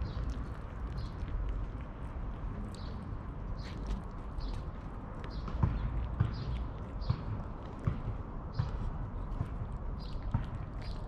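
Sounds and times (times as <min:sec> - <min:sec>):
cat chewing wet food: 0:00.0 - 0:11.0.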